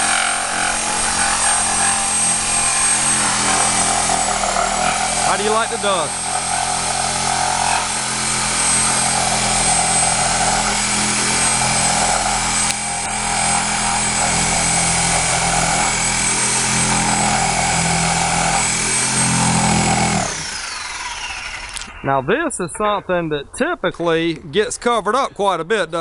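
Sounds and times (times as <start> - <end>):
power saw cutting wood: 0.0 - 22.0.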